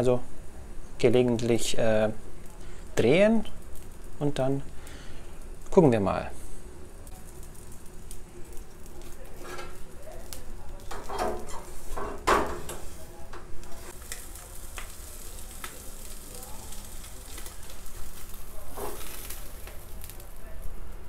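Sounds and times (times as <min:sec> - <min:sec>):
fish sizzling on grill: 0:01.2 - 0:21.0.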